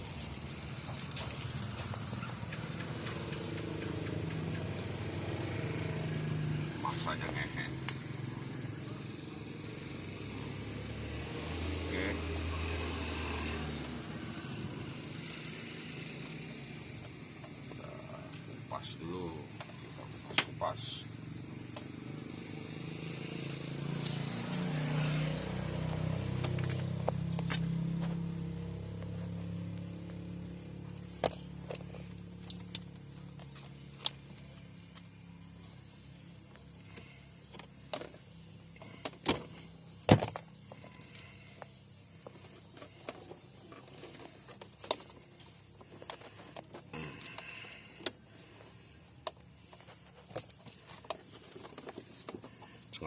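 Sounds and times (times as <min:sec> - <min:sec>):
vehicle engine hum: 0:00.0 - 0:20.3, 0:20.9 - 0:53.0.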